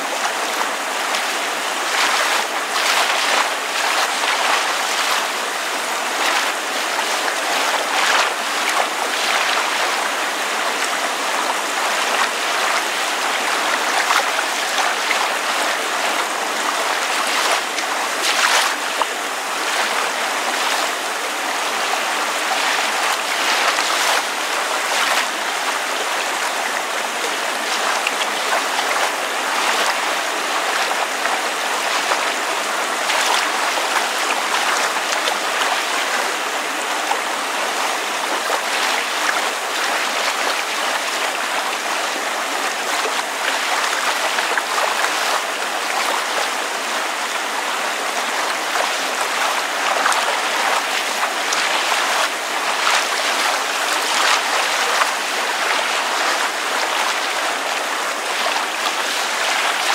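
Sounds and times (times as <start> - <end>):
rain falling: 0.0 - 59.9
water lapping: 0.0 - 59.9.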